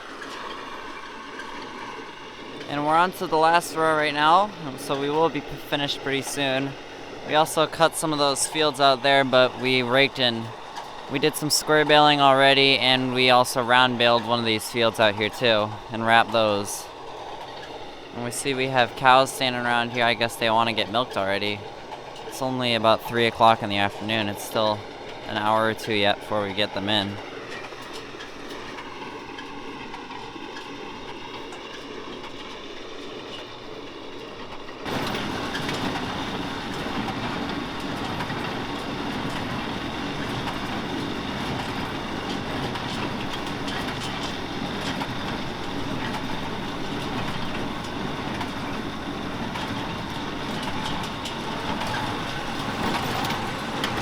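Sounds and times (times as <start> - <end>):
baler mechanical clatter: 0.0 - 54.0
tractor engine running: 0.0 - 54.0.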